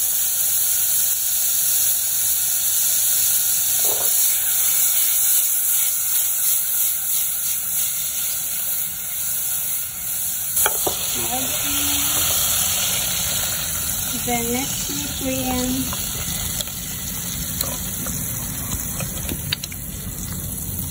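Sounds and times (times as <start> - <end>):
butter hissing in a pot: 0.0 - 20.9.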